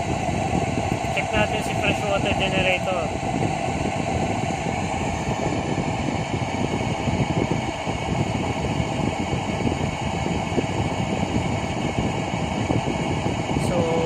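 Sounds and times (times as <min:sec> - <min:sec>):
machinery drone with hiss: 0:00.0 - 0:14.0.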